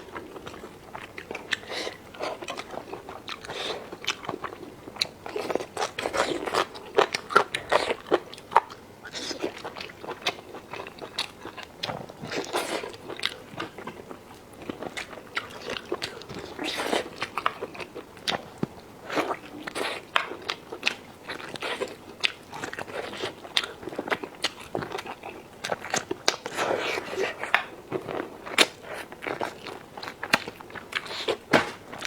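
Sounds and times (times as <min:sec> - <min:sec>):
crunching and wet chewing: 0:00.0 - 0:32.0.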